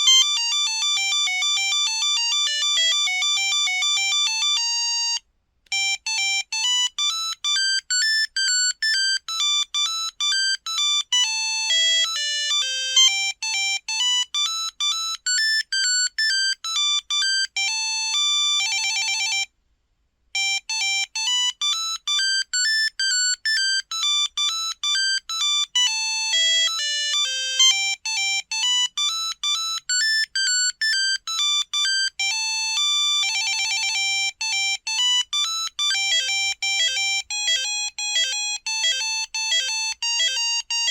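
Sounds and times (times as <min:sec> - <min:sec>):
monophonic phone ringtone: 0:00.0 - 0:19.5, 0:20.4 - 0:40.9.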